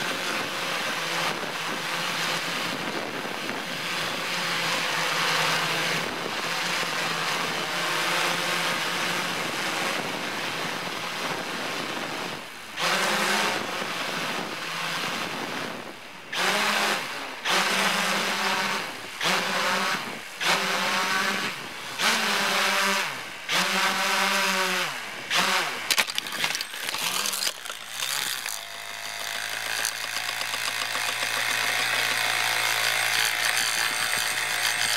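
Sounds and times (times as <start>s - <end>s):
drone motors and propellers humming: 0.0s - 34.9s.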